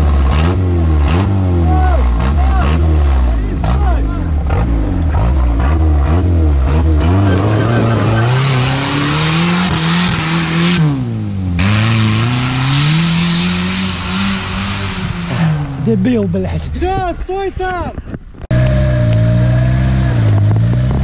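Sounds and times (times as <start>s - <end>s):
car engine revving hard: 0.0s - 16.0s, 18.5s - 21.0s.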